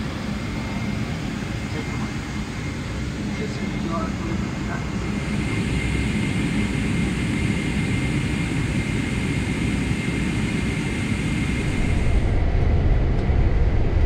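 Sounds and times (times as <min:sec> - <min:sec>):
jet engine rumble with high whine: 0:00.0 - 0:14.0.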